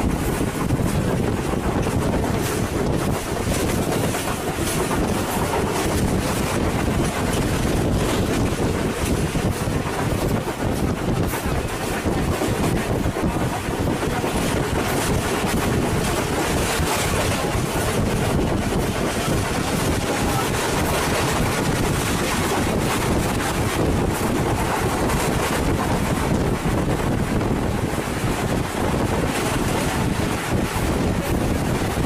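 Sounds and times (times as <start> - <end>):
train running noise: 0.0 - 32.0
wind buffeting the microphone: 0.0 - 32.0.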